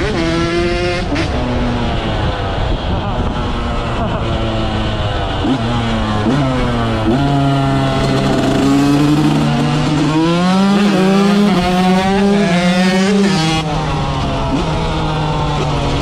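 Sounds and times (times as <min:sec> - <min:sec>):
motocross engine revving: 0:00.0 - 0:16.0.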